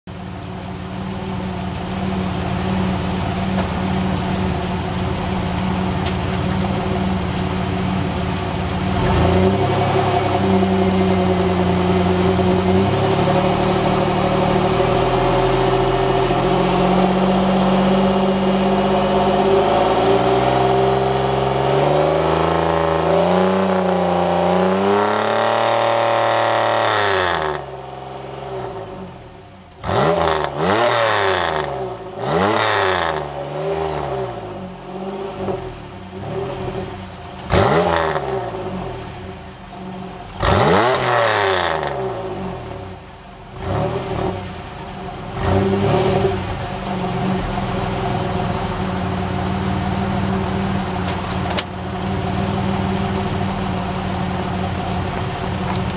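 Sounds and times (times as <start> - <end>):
car engine revving: 0.7 - 55.9.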